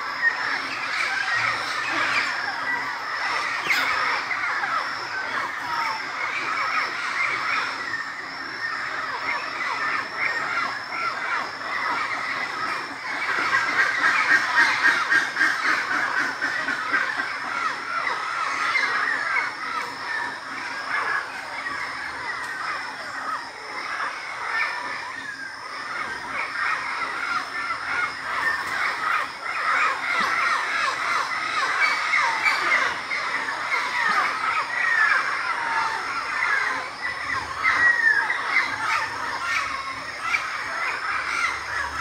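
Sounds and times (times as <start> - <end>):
chorus of squawking bird calls: 0.0 - 42.0.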